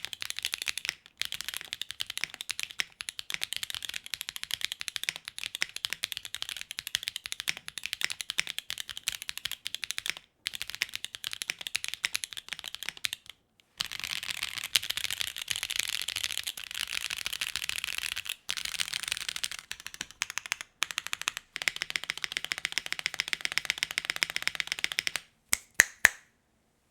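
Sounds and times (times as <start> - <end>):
fast mechanical keyboard typing: 0.0 - 25.2.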